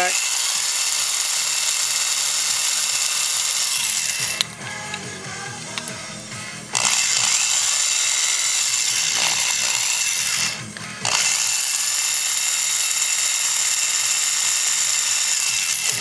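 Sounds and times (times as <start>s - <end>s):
rotary tool drill whine: 0.0s - 16.0s.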